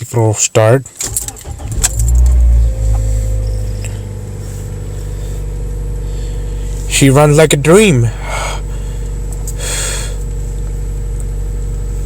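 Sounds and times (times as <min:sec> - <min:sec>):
car engine cold start and idle: 0:00.1 - 0:12.0.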